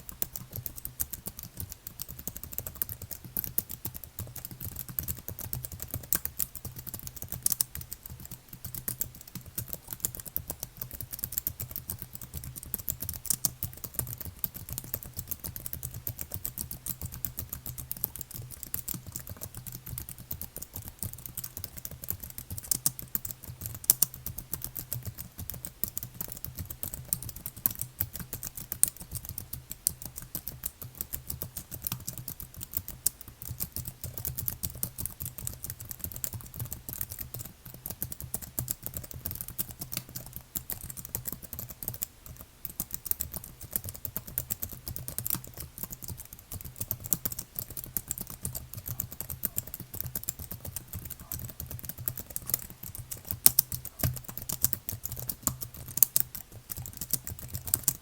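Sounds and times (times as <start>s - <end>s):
typing on computer keyboard: 0.0s - 58.0s.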